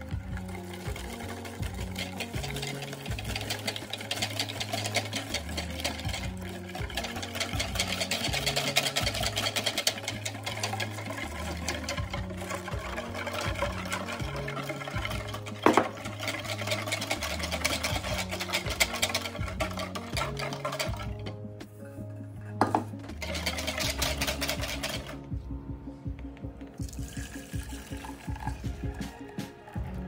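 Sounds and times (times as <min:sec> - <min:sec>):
whisk beating in plastic bowl: 0:00.0 - 0:21.7, 0:22.5 - 0:25.6, 0:26.8 - 0:30.0.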